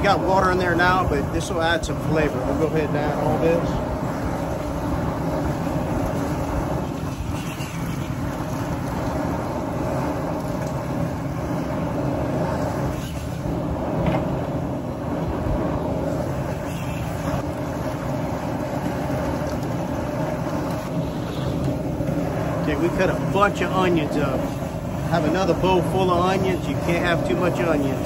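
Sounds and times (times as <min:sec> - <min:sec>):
propane burner rushing: 0:00.0 - 0:28.0.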